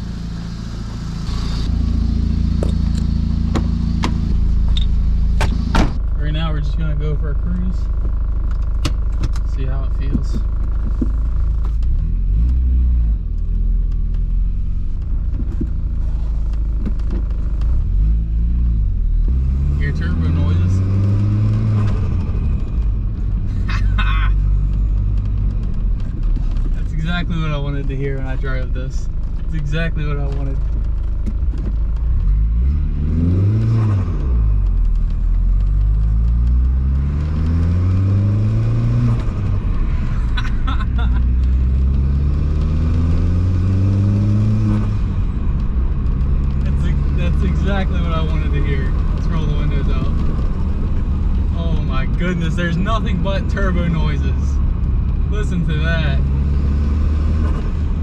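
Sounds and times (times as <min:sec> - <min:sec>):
turbocharged car engine revving: 0:00.0 - 0:58.0.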